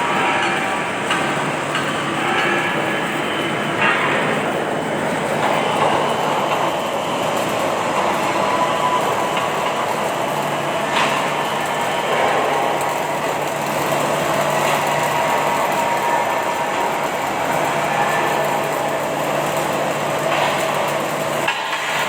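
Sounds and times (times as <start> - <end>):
welding machine hiss and rumble: 0.0 - 22.0.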